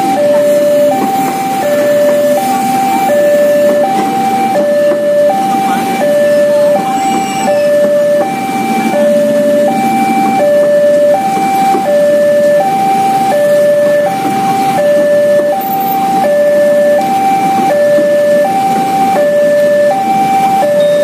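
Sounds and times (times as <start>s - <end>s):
electric train rumble: 0.0s - 21.0s
two-tone crossing alarm: 0.0s - 21.0s
waiting traffic: 0.0s - 21.0s.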